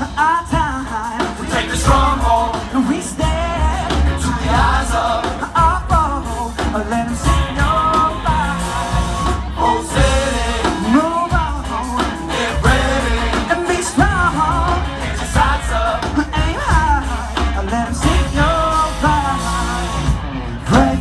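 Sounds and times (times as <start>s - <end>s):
live rock band with horns: 0.0s - 21.0s
person singing: 0.0s - 21.0s
strong bass: 0.0s - 21.0s.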